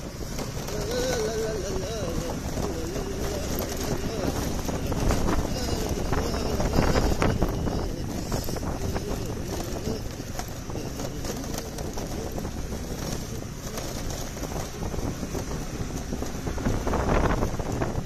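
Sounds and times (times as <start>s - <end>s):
motorbike engine rumble: 0.0s - 18.0s
tyres on road: 0.0s - 18.0s
wind buffeting microphone: 0.0s - 18.0s.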